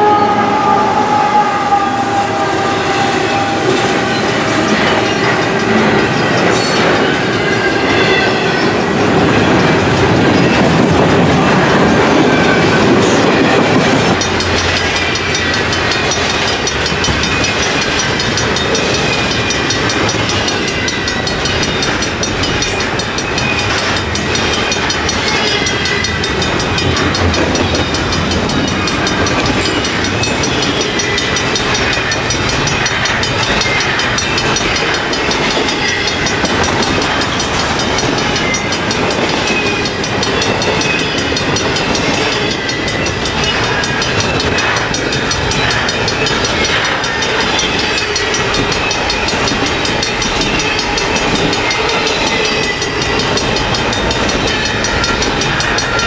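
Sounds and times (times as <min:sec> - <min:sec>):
freight train wheels rumbling: 0:00.0 - 0:56.0
wheels clicking over rails: 0:08.6 - 0:56.0.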